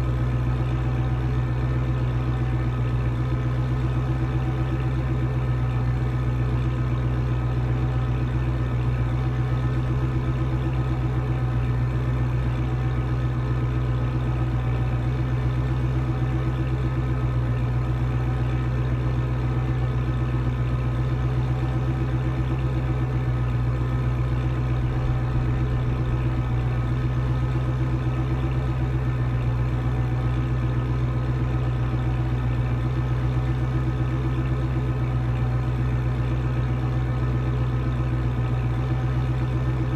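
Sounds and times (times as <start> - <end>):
engine idling low hum: 0.0 - 39.9.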